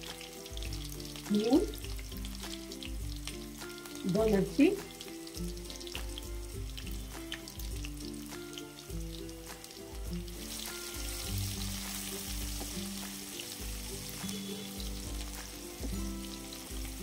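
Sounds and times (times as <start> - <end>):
background music with low beat: 0.0 - 17.0
hot oil sizzling: 0.0 - 17.0.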